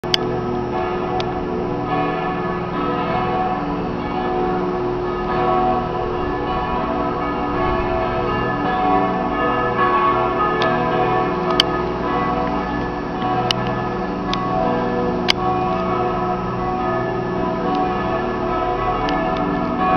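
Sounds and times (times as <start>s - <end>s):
church bells pealing: 0.0s - 19.9s.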